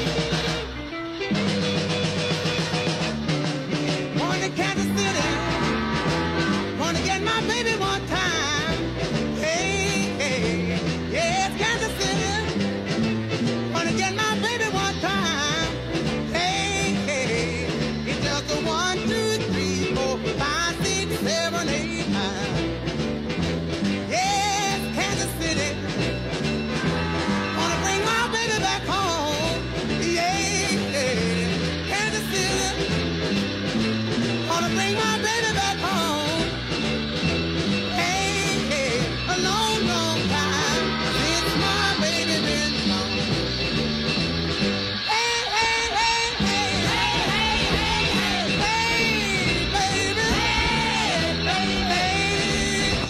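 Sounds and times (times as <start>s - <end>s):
rock song with singing: 0.0s - 53.0s.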